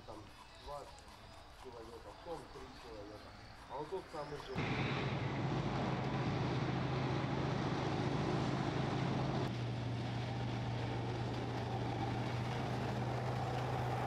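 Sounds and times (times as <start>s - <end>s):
low mechanical hum: 0.0s - 14.0s
outdoor background noise: 0.0s - 14.0s.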